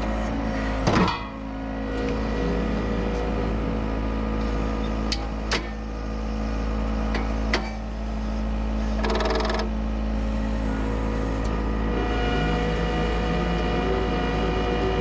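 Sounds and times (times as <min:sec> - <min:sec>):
heavy equipment engine running: 0:00.0 - 0:15.0.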